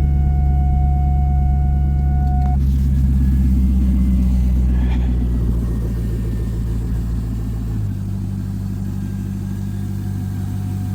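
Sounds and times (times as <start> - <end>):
engine idling: 0.0 - 10.9.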